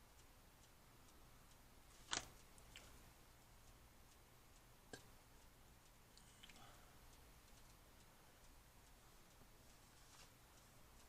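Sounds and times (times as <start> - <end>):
faint ticking: 0.0 - 11.0.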